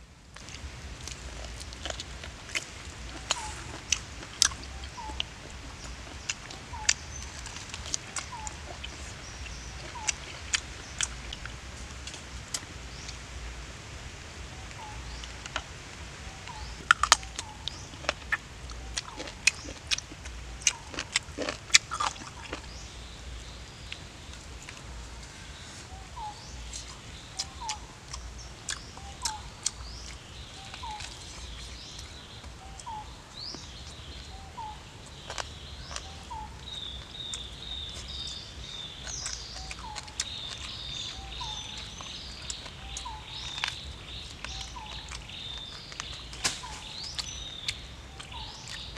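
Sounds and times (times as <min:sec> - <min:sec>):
high chattering bird calls: 0:03.1 - 0:11.4, 0:16.2 - 0:24.4, 0:25.0 - 0:48.9.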